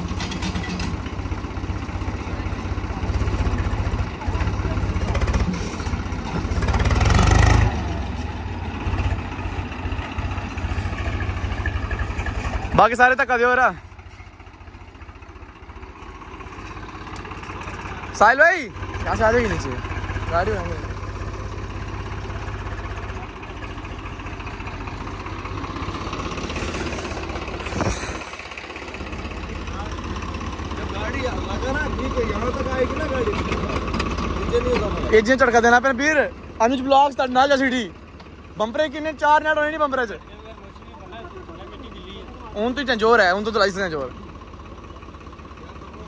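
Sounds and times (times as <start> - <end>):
truck diesel engine revving: 0.0 - 44.5.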